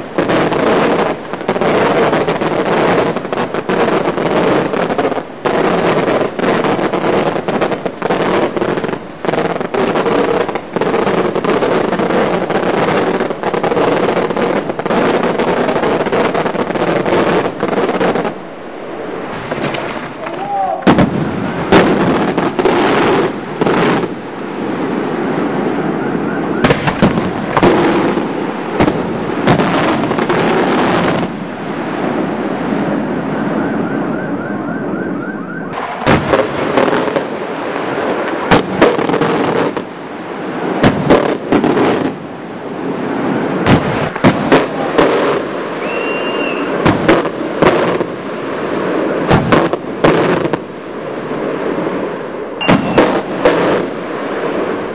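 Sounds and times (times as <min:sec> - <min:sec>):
fireworks crackling and banging: 0:00.0 - 0:54.9.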